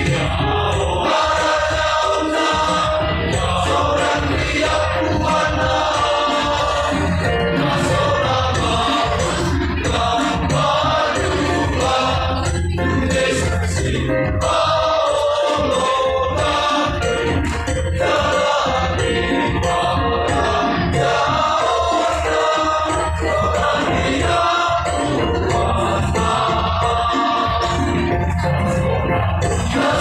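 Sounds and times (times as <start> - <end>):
choir singing in harmony: 0.0 - 30.0.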